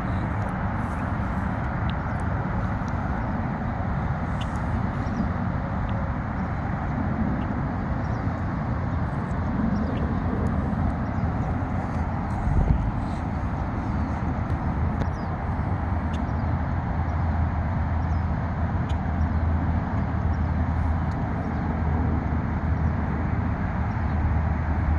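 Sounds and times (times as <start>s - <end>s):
outdoor rumble and hiss: 0.0s - 24.9s.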